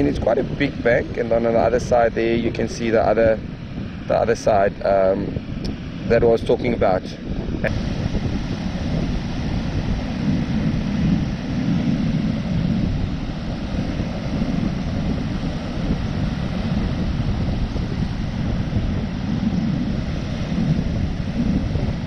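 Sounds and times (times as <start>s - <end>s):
heavy surf rumbling: 0.0s - 22.0s
wind buffeting microphone: 0.0s - 22.0s.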